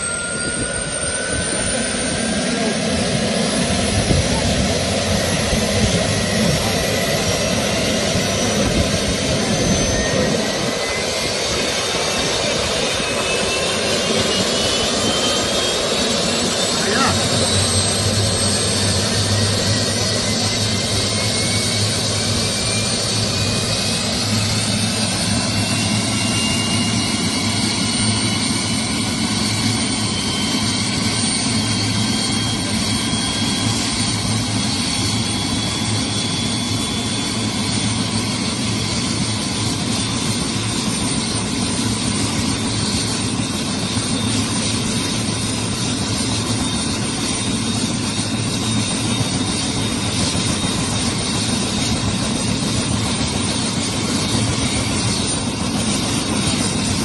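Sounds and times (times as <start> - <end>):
helicopter turbine whine: 0.0 - 57.0.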